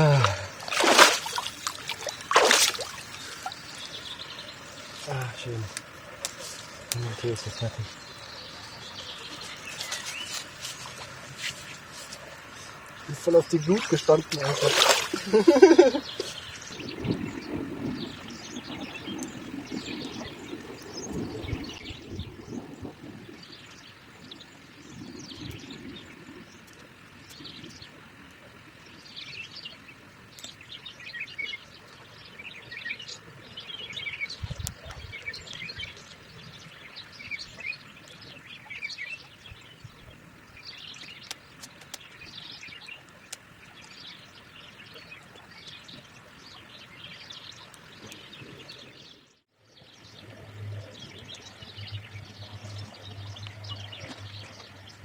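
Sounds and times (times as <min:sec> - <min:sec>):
faint outdoor background: 0:00.0 - 0:55.0
small birds chirping: 0:00.0 - 0:55.0.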